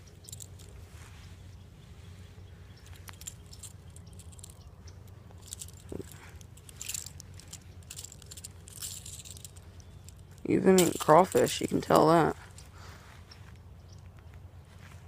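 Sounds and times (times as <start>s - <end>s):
handling clicks and rustles: 0.0s - 15.0s
low steady rumble: 0.0s - 15.0s.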